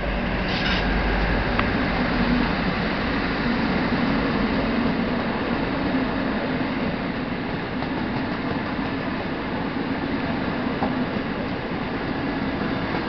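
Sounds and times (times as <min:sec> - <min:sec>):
diesel locomotive engine drone: 0:00.0 - 0:13.0
wheels rumbling on rail: 0:00.0 - 0:13.0.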